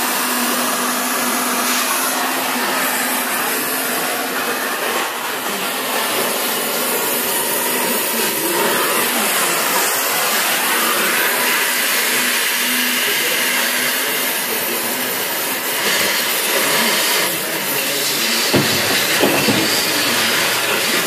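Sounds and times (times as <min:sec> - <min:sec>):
gas cutting torch hissing: 0:00.0 - 0:21.0.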